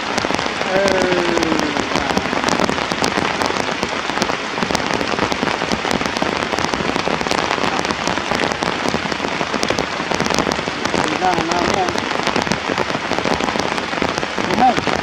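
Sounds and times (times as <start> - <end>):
steady rain with drop hits: 0.0 - 15.0.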